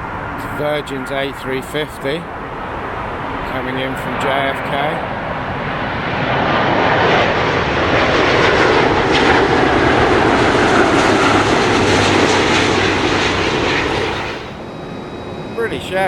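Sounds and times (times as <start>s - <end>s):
jet aircraft rushing noise: 0.0s - 16.0s.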